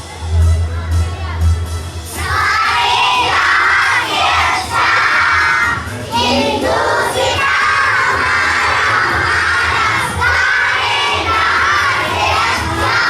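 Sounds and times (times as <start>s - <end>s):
music: 0.0s - 13.0s
young children's voices: 2.2s - 13.0s.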